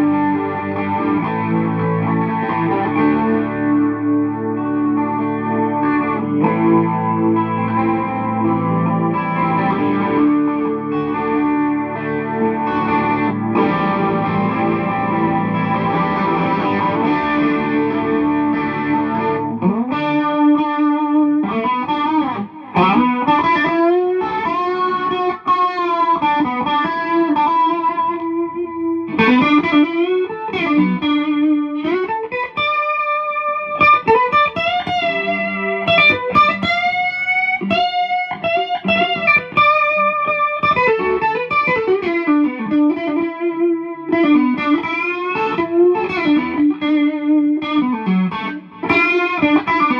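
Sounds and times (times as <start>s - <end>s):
clean electric guitar: 0.0s - 49.9s.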